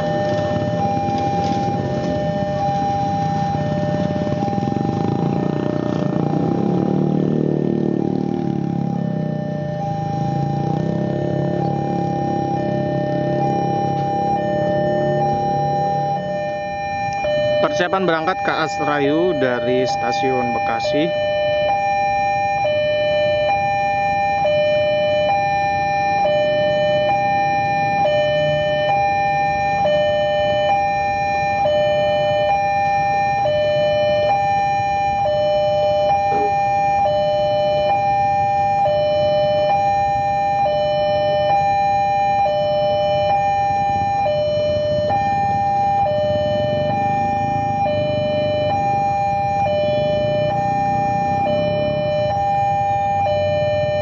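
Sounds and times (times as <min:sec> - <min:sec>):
level crossing alarm ringing: 0:00.0 - 0:54.0.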